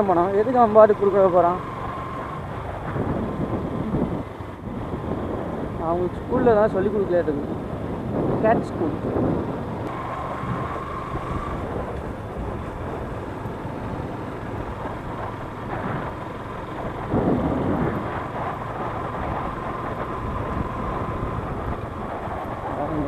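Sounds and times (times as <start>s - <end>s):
motorcycle engine running: 0.0s - 23.0s
road noise: 0.0s - 23.0s
wind rumbling on microphone: 0.0s - 23.0s.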